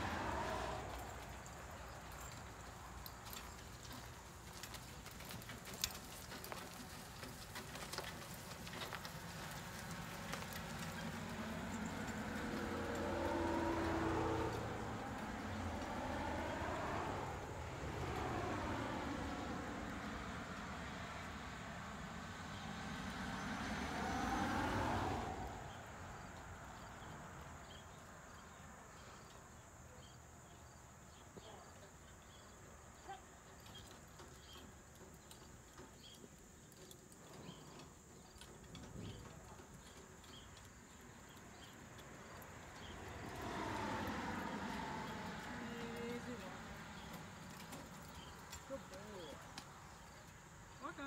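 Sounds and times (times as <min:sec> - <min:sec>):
road vehicle passing: 0:00.0 - 0:31.8, 0:36.8 - 0:51.0.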